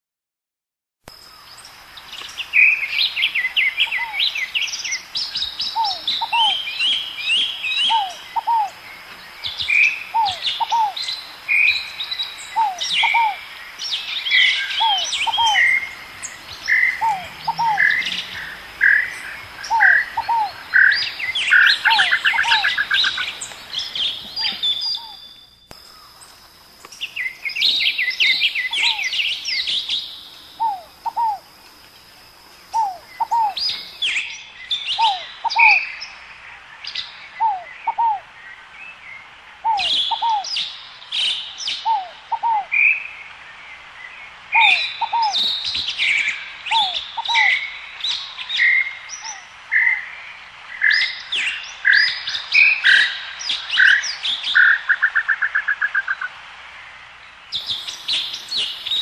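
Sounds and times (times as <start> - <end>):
birds chirping and trilling: 1.1 - 56.4, 57.2 - 59.0.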